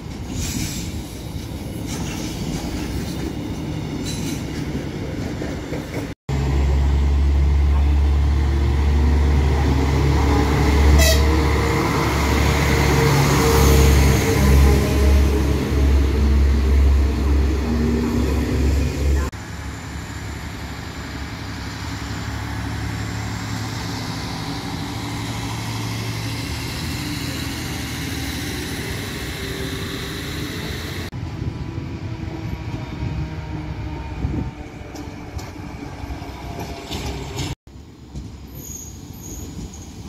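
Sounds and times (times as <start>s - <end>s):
diesel railcar engine rumble: 0.0s - 40.0s.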